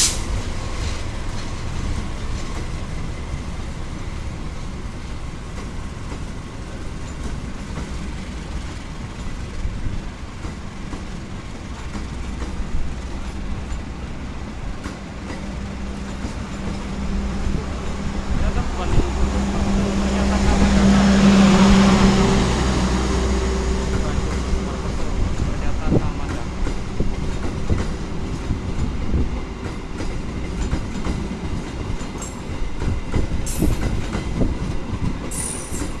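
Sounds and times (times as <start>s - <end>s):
clickety-clack over rail joints: 0.0s - 36.0s
train wheels rumbling on rail: 0.0s - 36.0s.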